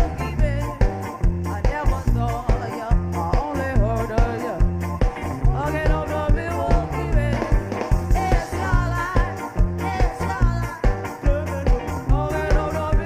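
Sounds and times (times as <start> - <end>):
drum beat: 0.0 - 13.0
live band playing ska: 0.0 - 13.0.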